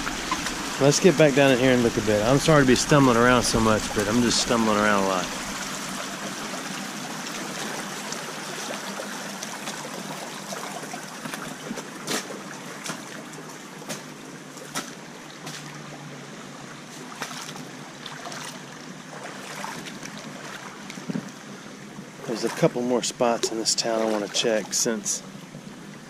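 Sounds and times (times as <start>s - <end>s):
creek water trickling over rocks: 0.0s - 26.0s.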